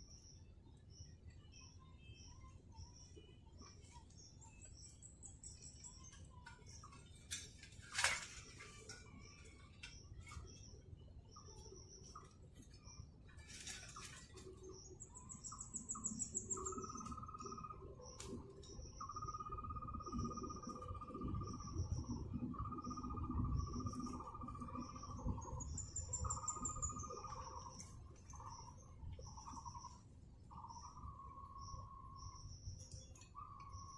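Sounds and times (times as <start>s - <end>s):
birds chirping and trilling: 3.0s - 33.9s.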